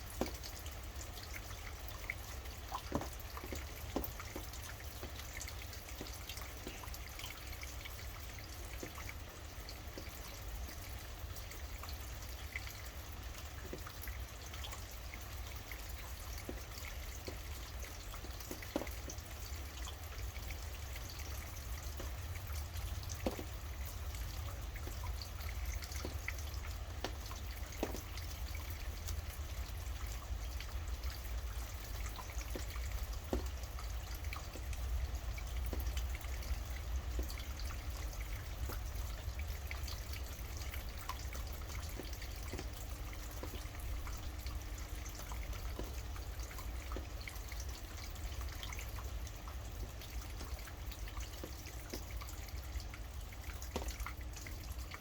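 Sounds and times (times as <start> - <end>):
rain drips and patters: 0.0 - 55.0.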